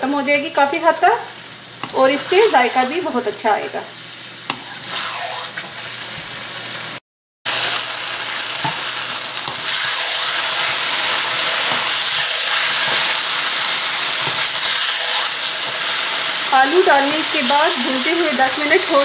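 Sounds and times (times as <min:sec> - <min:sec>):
food sizzling in a pot: 0:00.1 - 0:19.0.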